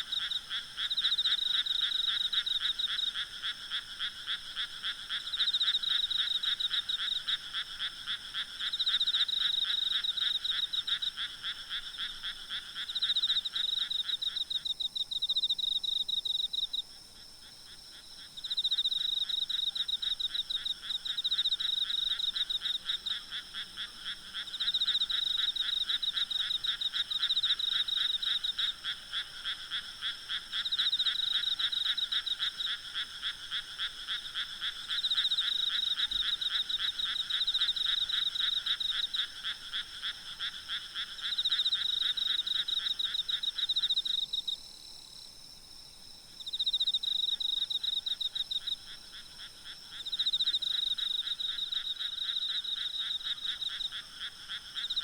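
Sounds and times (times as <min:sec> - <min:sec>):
frogs calling: 0:00.0 - 0:16.8, 0:17.4 - 0:44.5, 0:46.3 - 0:55.0.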